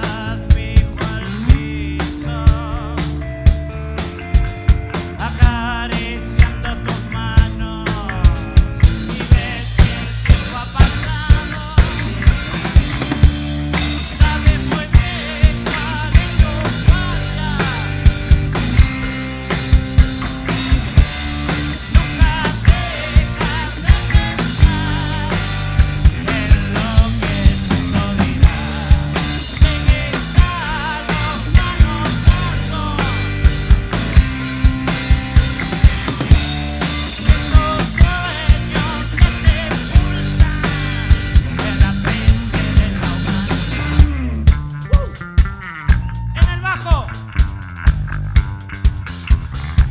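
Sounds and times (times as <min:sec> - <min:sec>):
drum kit beat: 0:00.0 - 0:49.9
rock band playing: 0:00.0 - 0:49.9.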